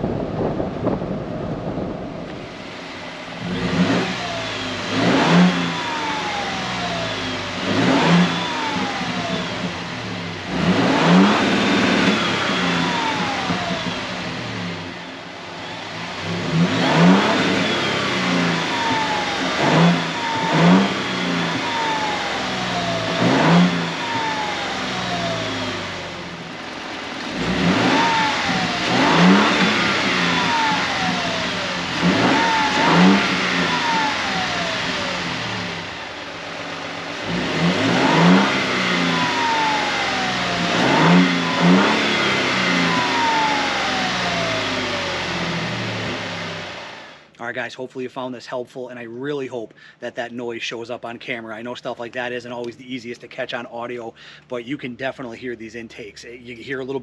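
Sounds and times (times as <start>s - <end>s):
engine revving: 0.0s - 47.4s
driving noise: 0.0s - 57.0s.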